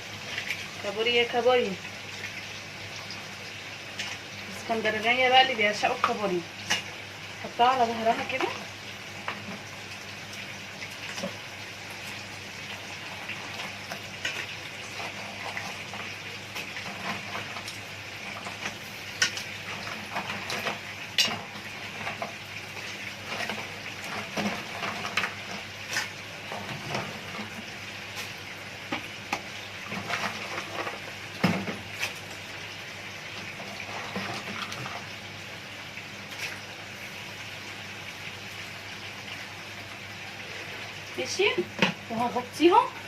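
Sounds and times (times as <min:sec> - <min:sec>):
crabs sizzling in hot oil: 0:00.0 - 0:43.0.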